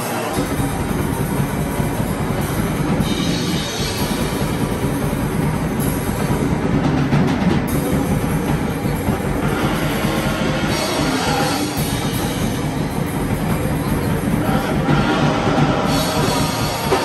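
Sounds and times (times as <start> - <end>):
drum kit: 0.0 - 17.0
electric guitar: 0.0 - 17.0
live rock band playing: 0.0 - 17.0.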